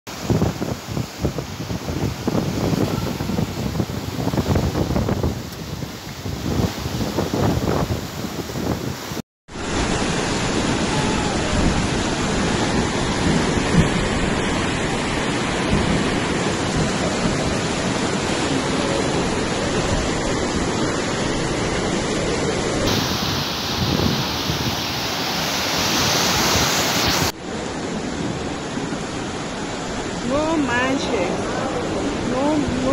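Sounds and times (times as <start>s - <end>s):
floodwater rushing down a street: 0.1s - 32.9s.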